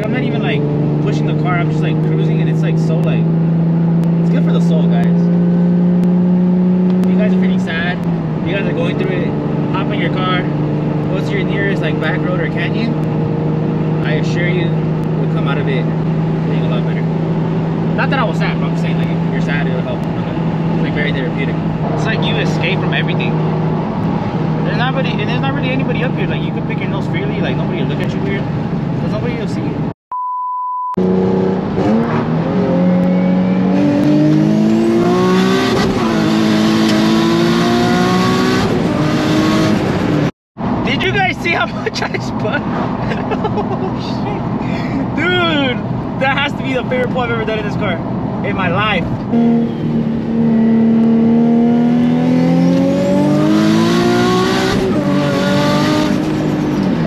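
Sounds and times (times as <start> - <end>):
car engine accelerating: 0.0 - 29.9, 31.0 - 57.0.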